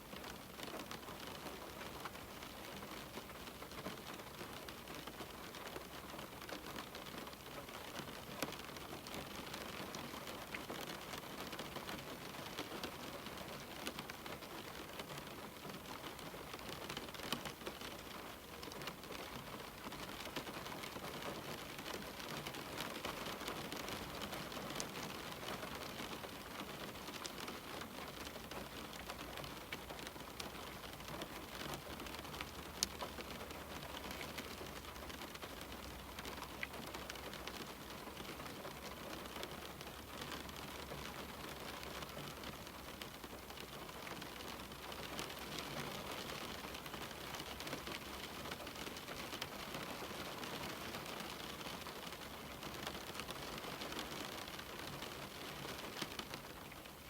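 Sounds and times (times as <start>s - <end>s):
rain pattering on window: 0.0s - 57.0s.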